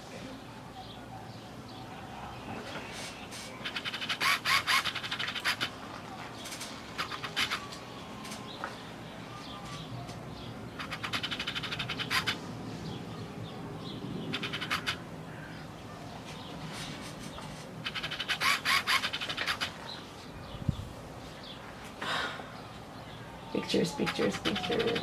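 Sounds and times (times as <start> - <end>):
low steady background hum: 0.0 - 25.0
birds chirping in rapid trills: 0.4 - 21.8, 22.4 - 25.0.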